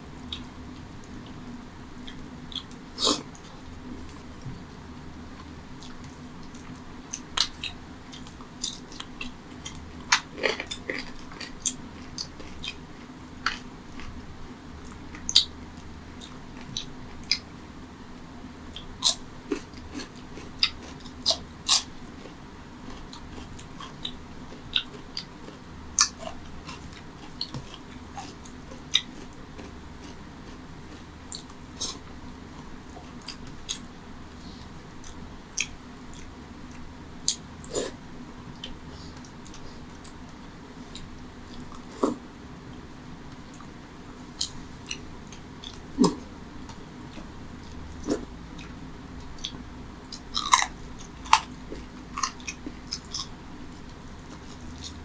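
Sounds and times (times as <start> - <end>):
faint low hum: 0.0 - 55.0
chewing and wet smacks: 0.2 - 1.4, 2.0 - 4.6, 5.3 - 14.2, 14.8 - 17.5, 18.7 - 34.0, 34.6 - 37.7, 38.5 - 55.0.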